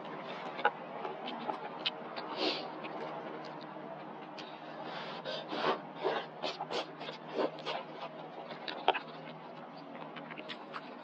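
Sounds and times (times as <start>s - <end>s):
chewing with smacking clicks: 0.4s - 4.6s, 6.1s - 11.0s.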